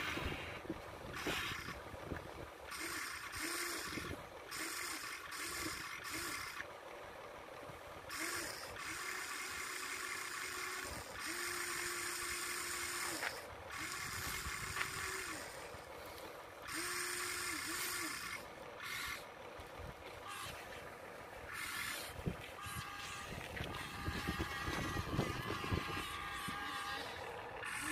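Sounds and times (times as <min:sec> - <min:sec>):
electric motors whining: 0:00.0 - 0:27.9.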